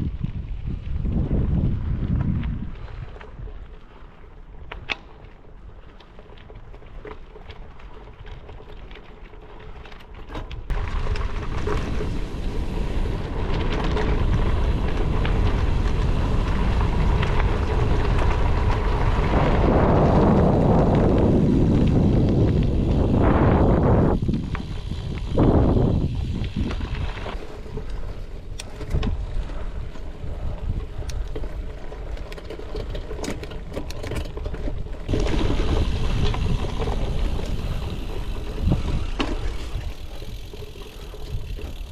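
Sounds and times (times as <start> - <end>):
wind noise on microphone: 0.0 - 5.9, 10.6 - 41.9
bike rolling on gravel: 0.0 - 41.9.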